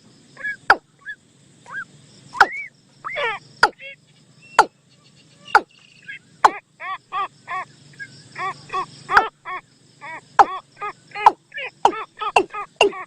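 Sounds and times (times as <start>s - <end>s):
bird calls from playback: 0.4s - 13.0s.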